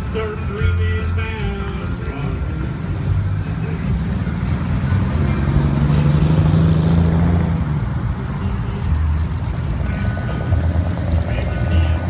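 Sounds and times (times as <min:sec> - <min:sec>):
car engine rumbling past: 0:00.0 - 0:12.0.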